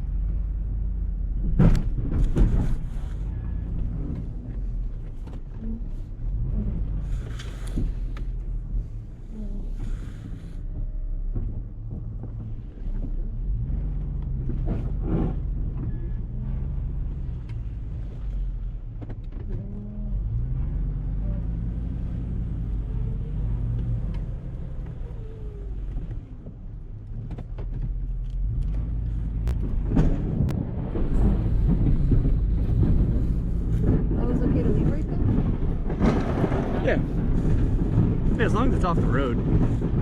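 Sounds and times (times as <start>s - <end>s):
snowplow engine running under load: 0.0s - 40.0s.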